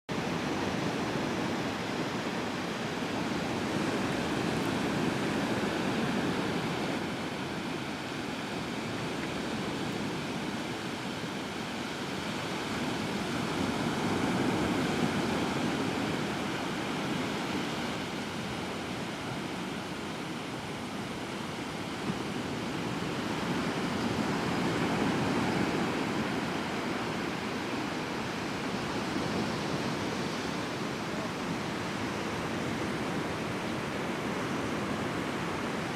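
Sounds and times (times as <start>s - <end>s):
surf washing on shore: 0.1s - 35.9s.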